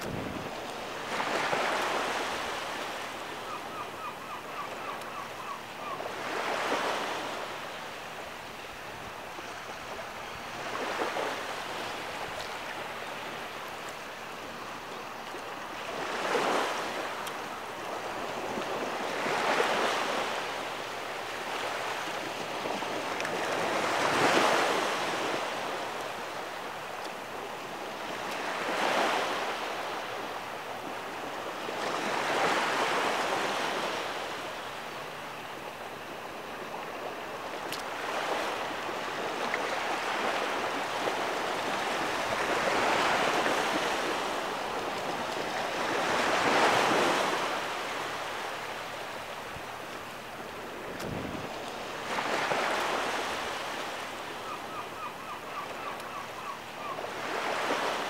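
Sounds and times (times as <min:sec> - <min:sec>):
ocean surf on sandy beach: 0:00.0 - 0:58.0.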